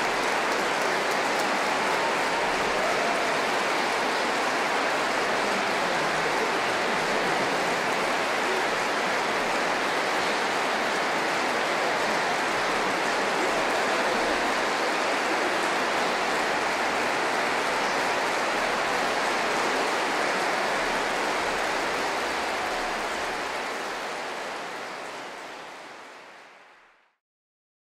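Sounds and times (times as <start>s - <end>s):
audience applauding: 0.0s - 27.1s.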